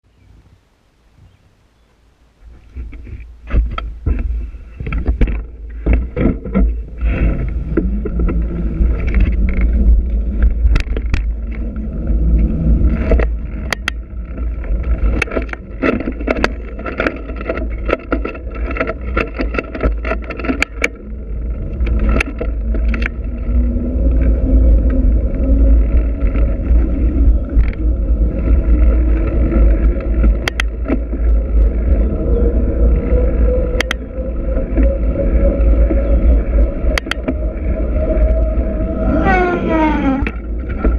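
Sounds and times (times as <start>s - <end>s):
wind rumble on microphone: 0.0s - 40.9s
bike rolling: 0.1s - 40.9s
bike clicks and rattles: 2.5s - 40.9s.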